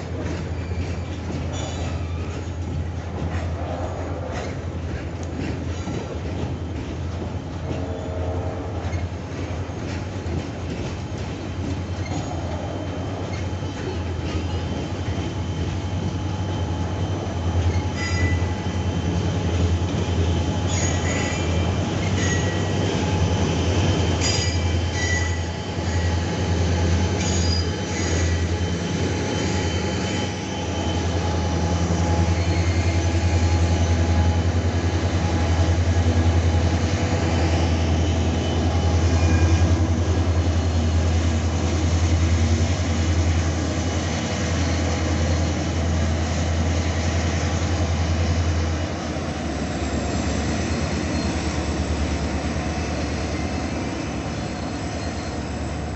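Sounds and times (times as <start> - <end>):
diesel locomotive drone: 0.0 - 55.9
rumble of freight wagons: 0.0 - 55.9
train wheels squealing on rails: 0.0 - 55.9.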